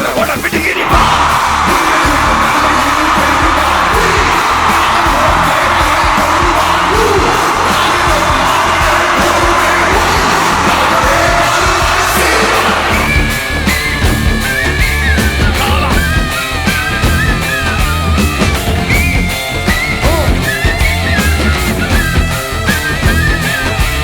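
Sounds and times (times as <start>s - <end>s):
loud rock music: 0.0s - 24.0s.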